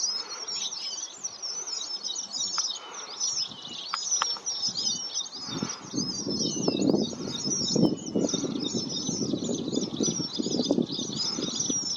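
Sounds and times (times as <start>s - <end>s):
flock of birds chirping: 0.0s - 11.9s.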